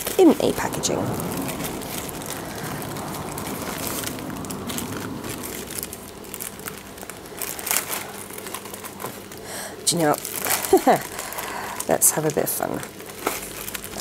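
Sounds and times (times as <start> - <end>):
plastic bag rustling and crinkling: 0.0 - 14.0.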